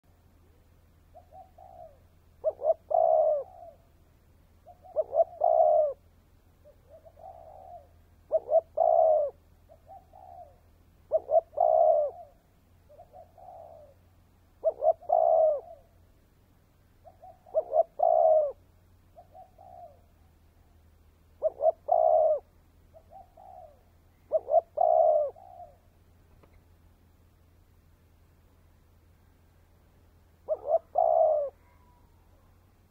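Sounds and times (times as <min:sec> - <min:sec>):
dove cooing: 0:00.4 - 0:16.0, 0:17.0 - 0:20.8, 0:21.4 - 0:26.6, 0:30.4 - 0:32.9.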